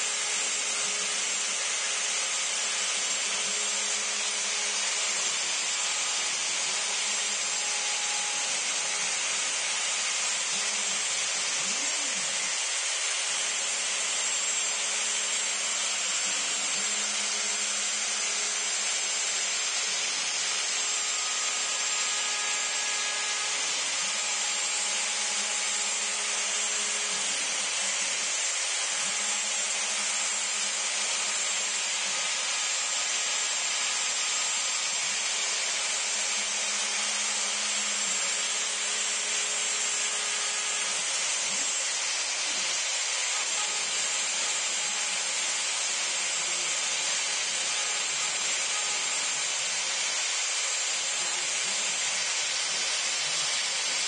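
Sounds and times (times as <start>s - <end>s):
hiss of wood cutting: 0.0s - 54.0s
wood router high whine: 0.0s - 54.0s.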